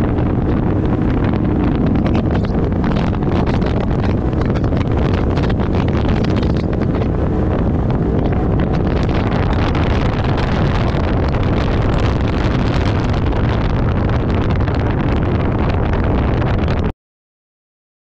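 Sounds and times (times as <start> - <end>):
off-road vehicle engine running: 0.0 - 16.9
wind buffeting microphone: 0.0 - 16.9.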